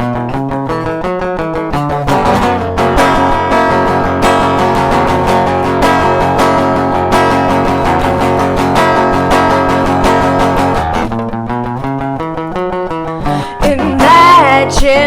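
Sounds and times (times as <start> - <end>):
acoustic guitar strumming and plucking: 0.0 - 15.0.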